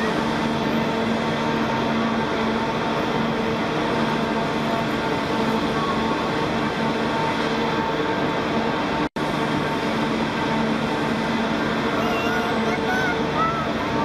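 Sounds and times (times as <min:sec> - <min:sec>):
hydraulic machinery humming: 0:00.0 - 0:14.0.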